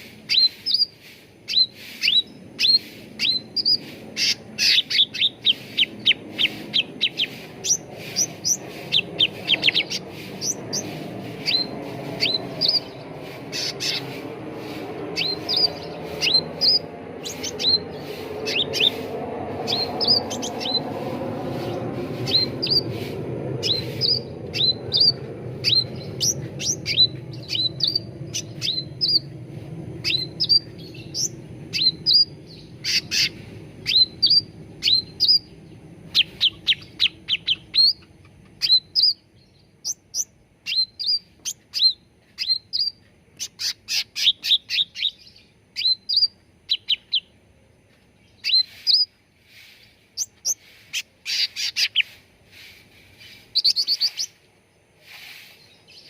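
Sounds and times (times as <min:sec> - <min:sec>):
low background hum: 0:00.0 - 0:55.0
songbird chirping: 0:00.0 - 0:56.0.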